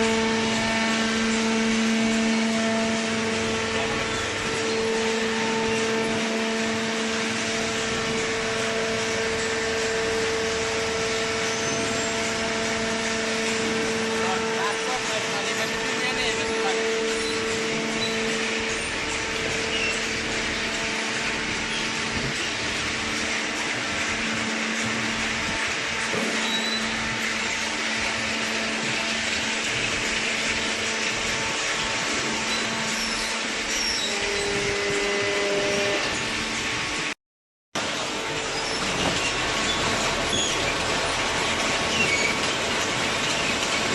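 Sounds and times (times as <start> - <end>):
baler motor and pump humming: 0.0 - 37.2, 37.8 - 43.9.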